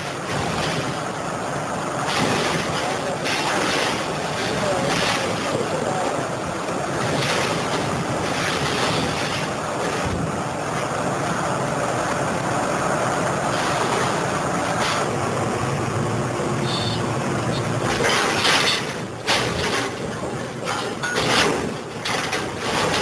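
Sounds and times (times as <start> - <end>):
diesel engine and hydraulics rumbling: 0.0 - 23.0.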